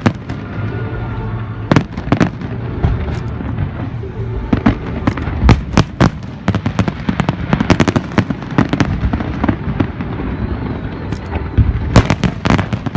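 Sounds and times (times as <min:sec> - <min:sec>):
fireworks bangs and crackles: 0:00.0 - 0:12.9.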